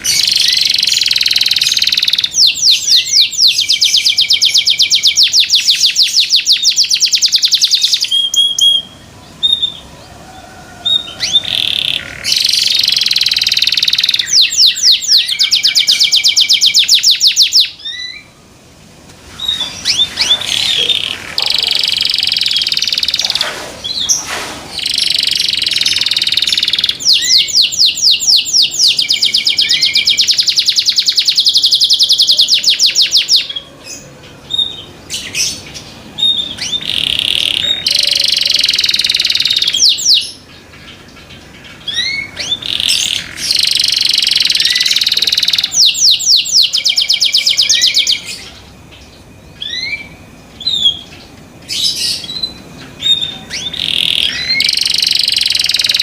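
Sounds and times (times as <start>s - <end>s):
canary singing trills: 0.0s - 18.4s, 19.3s - 56.0s.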